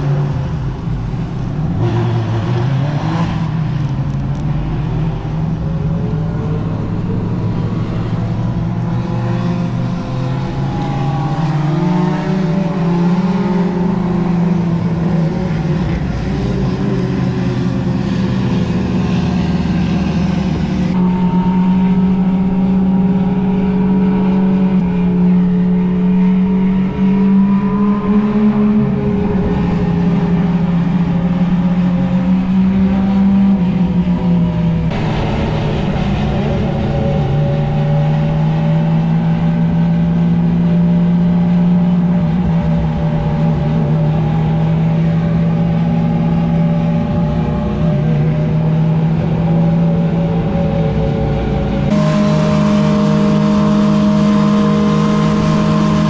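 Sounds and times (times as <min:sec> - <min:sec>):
race car engine running: 0:00.0 - 0:56.0.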